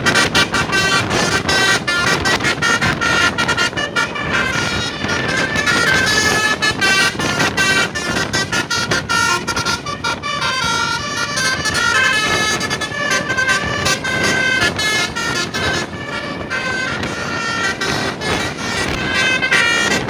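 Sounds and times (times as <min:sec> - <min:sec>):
multi-note bus horn melody: 0:00.0 - 0:20.0
noisy background: 0:00.0 - 0:20.0.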